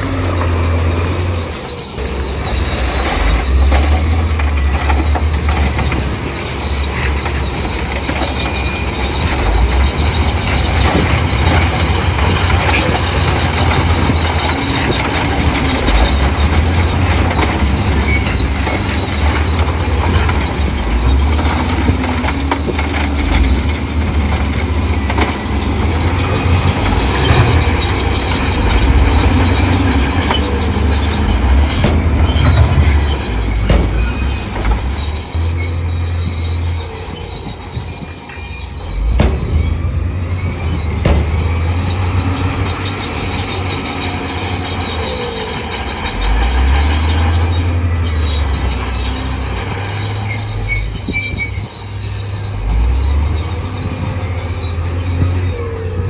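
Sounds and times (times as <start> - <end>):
bulldozer diesel rumble: 0.0 - 56.0
steel tracks squealing and clanking: 0.0 - 56.0.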